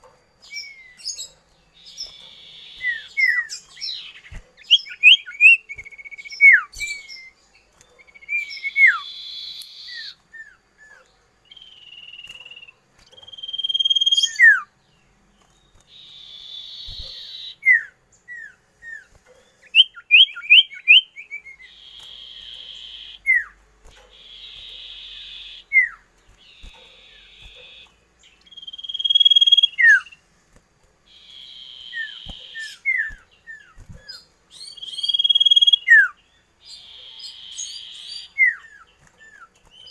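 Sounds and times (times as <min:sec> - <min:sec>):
bird singing: 0:00.0 - 0:30.3, 0:31.1 - 0:39.9.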